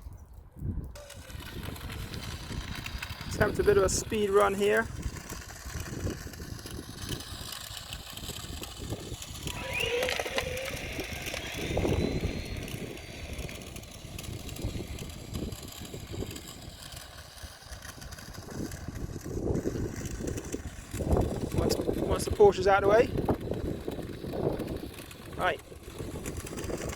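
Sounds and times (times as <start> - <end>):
wind on microphone: 0.0 - 26.9
electric motor whining: 1.0 - 26.9.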